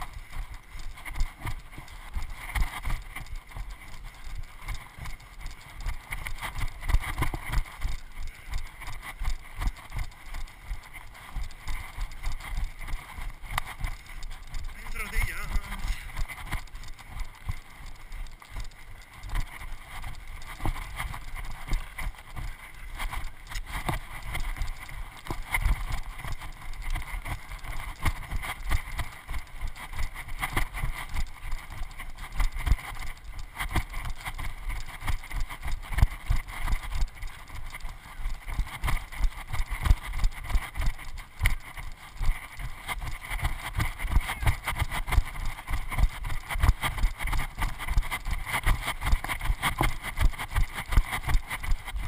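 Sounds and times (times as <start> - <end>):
footsteps on dirt trail: 0.0 - 52.0.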